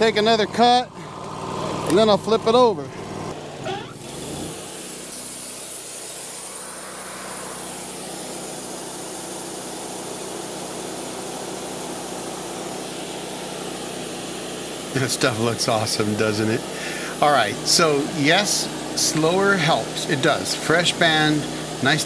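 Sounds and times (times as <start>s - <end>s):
sawmill engine running: 0.0s - 22.0s.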